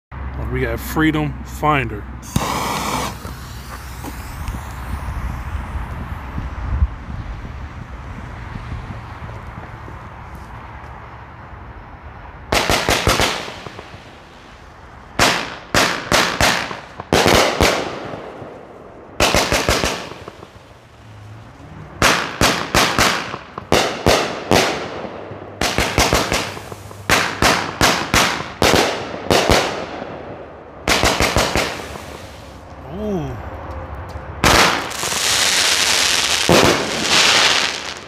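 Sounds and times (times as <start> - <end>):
firework volleys of sharp bangs: 2.2 - 10.2, 12.4 - 32.7, 34.4 - 38.0.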